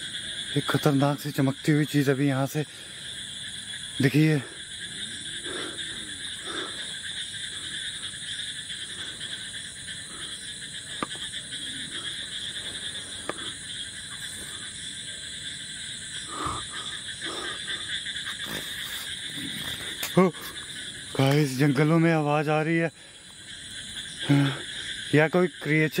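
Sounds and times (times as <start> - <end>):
frogs and insects chorus: 0.0 - 26.0.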